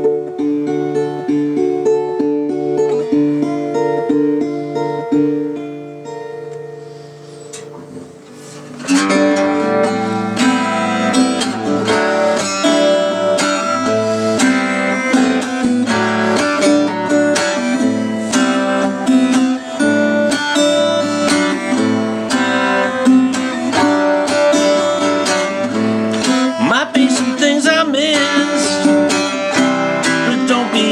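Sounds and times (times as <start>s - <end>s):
acoustic guitar strumming chords: 0.0s - 30.9s.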